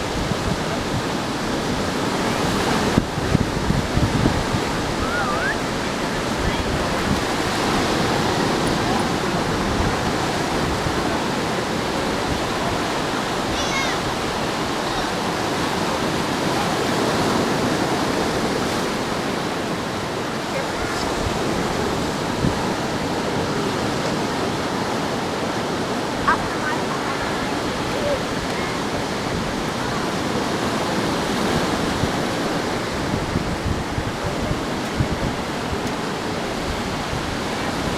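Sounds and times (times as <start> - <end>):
ocean surf washing onto beach: 0.0 - 37.9.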